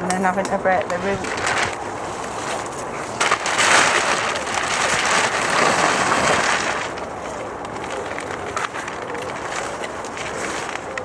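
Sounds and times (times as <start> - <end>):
plant stems rustling and breaking: 0.8 - 11.0.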